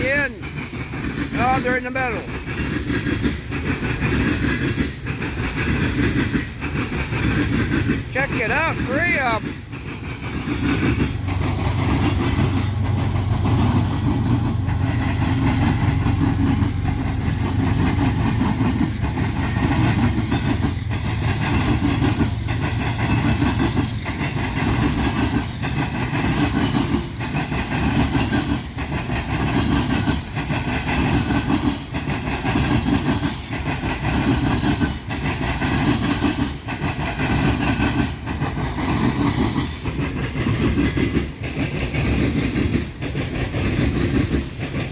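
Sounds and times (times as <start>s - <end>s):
diesel locomotive engines droning: 0.0s - 44.9s
train wheels clacking over rail joints: 0.0s - 44.9s.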